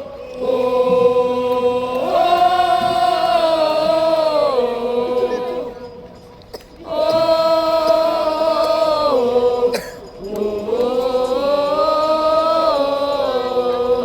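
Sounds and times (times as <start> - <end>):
football supporters chanting: 0.0 - 6.0, 6.8 - 14.0.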